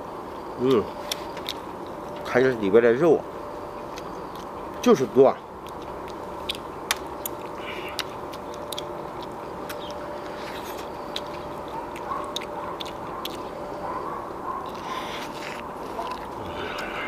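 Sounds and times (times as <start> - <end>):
faint steady hum: 0.0 - 17.0
man chewing and sucking meat: 0.2 - 2.3, 3.5 - 4.8, 5.5 - 17.0.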